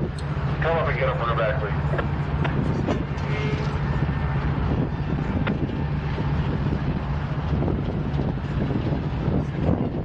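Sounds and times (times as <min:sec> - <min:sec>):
diesel locomotive engine drone: 0:00.0 - 0:10.0
wind noise on microphone: 0:00.0 - 0:10.0.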